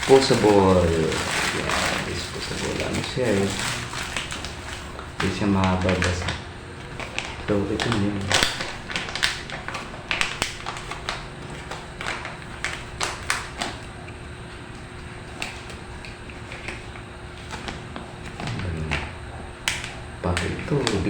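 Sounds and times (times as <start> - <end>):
faint steady hum: 0.0 - 21.0
hands handling plastic packaging: 0.0 - 21.0.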